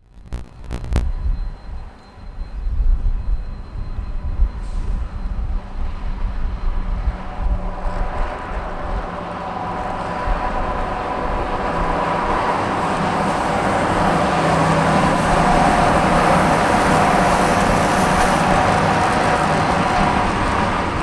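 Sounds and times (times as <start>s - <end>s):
electric locomotive and train passing: 1.2s - 21.0s.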